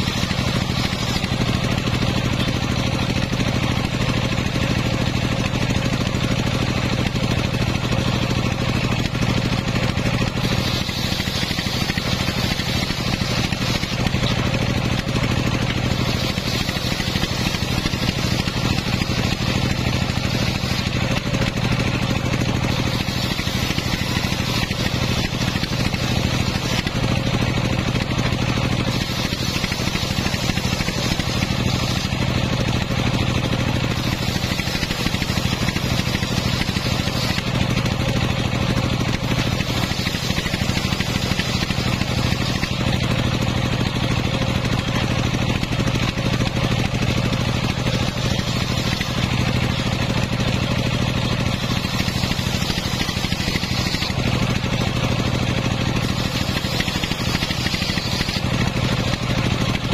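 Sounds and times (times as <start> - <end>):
saw blade cutting wood: 0.0 - 59.9
saw drive hum: 0.0 - 59.9.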